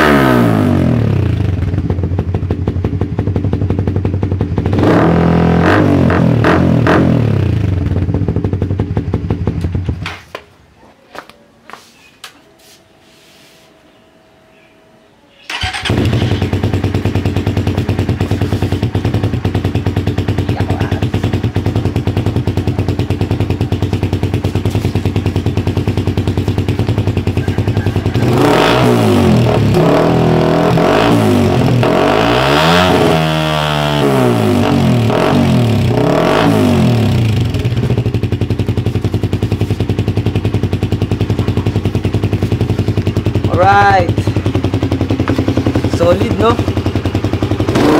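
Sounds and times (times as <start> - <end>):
motorcycle engine idling and revving: 0.0 - 10.4, 15.5 - 47.9.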